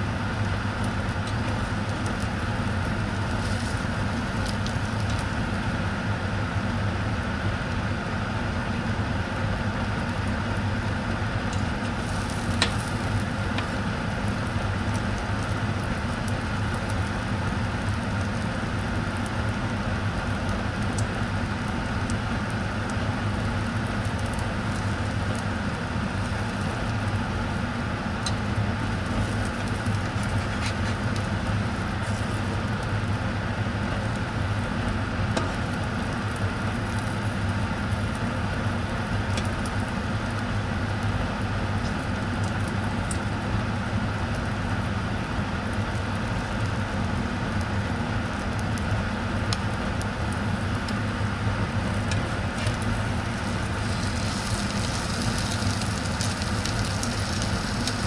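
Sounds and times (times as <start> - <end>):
sandwich sizzling in frying pan: 0.1 - 8.6, 9.5 - 40.8, 50.1 - 58.0.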